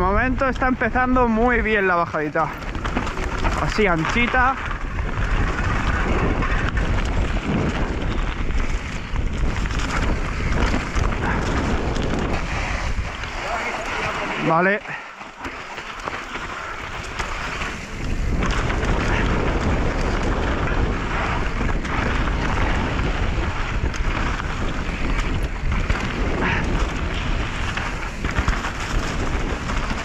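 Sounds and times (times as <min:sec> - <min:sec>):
bike rattling: 0:00.0 - 0:30.0
wind rushing over microphone: 0:00.0 - 0:30.0
tyres rolling over dirt and stones: 0:00.4 - 0:30.0.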